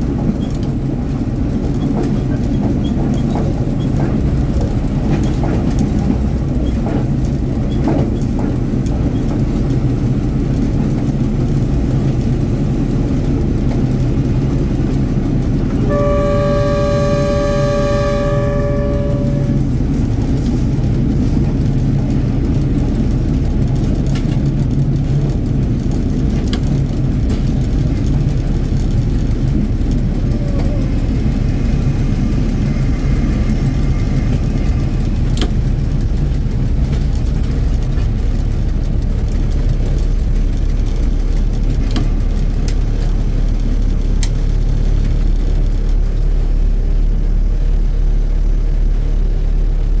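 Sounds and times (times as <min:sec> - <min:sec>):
train engine rumble: 0:00.0 - 0:50.0
wheel and rail noise: 0:00.0 - 0:50.0.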